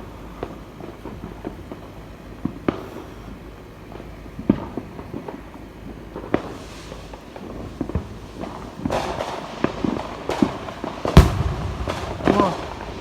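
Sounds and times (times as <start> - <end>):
fireworks crackle: 0.0 - 13.0
fireworks popping and banging: 0.4 - 13.0.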